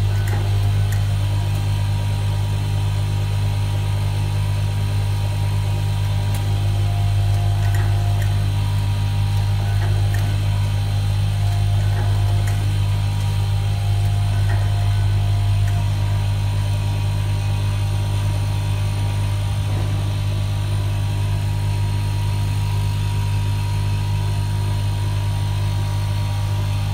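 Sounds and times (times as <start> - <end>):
machine humming: 0.0 - 26.9.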